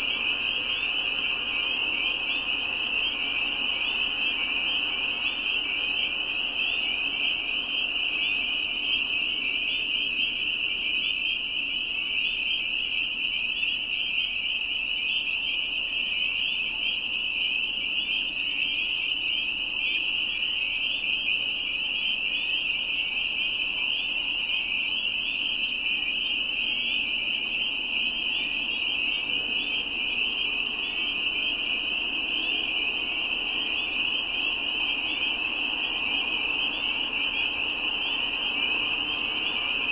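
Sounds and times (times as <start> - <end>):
chorus of frogs peeping: 0.0 - 39.9.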